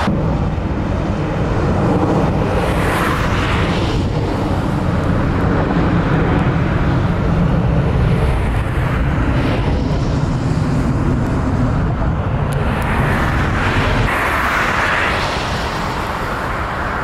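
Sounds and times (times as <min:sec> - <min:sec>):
airport rumble: 0:00.0 - 0:17.0.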